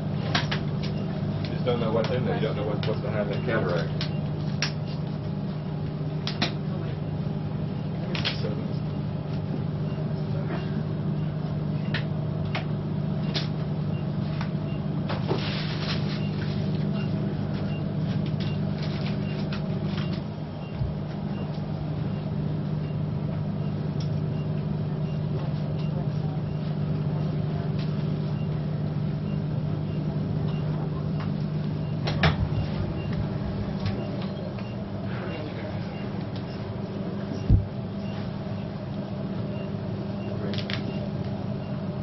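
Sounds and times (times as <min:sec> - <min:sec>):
low machinery hum: 0:00.0 - 0:42.0.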